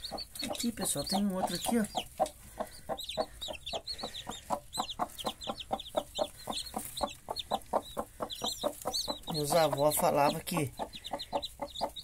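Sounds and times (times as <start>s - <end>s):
chicks peeping: 0.0s - 12.0s
hen clucking rapidly: 0.0s - 12.0s.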